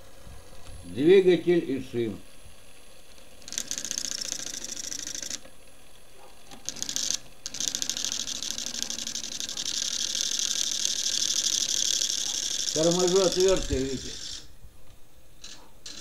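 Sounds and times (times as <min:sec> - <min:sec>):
electric motor running: 0:00.0 - 0:14.6, 0:15.4 - 0:16.0
screwdriver scraping spinning shaft: 0:00.0 - 0:14.6, 0:15.4 - 0:16.0.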